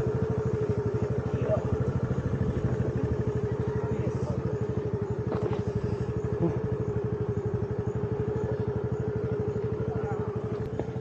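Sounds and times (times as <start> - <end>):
scooter engine running at low revs: 0.0 - 11.0.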